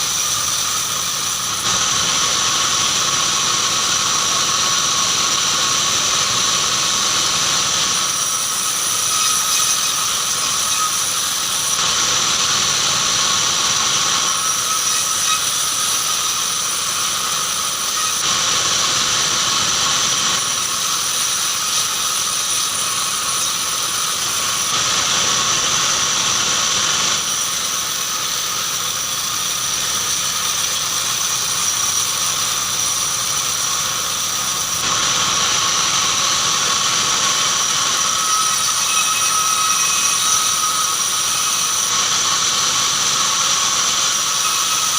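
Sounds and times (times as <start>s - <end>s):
band saw whining: 0.0s - 44.9s.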